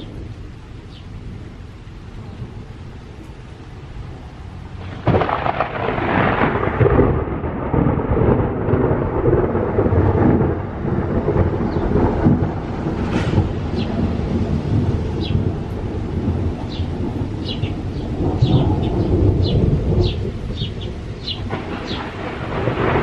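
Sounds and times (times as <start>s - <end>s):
rain falling: 0.0s - 23.0s
thunder rumbling: 0.0s - 23.0s.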